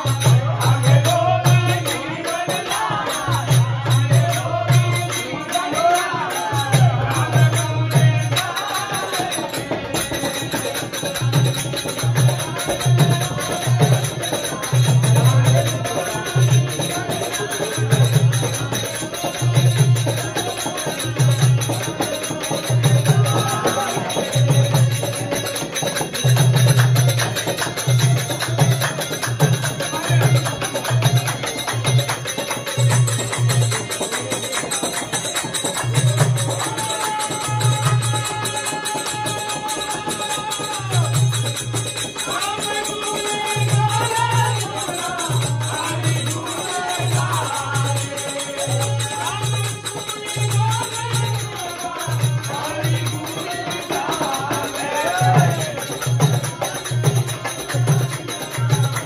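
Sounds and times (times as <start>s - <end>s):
harmonium: 0.0s - 59.0s
low beat and jingling percussion: 0.0s - 59.0s
man singing: 0.0s - 59.0s.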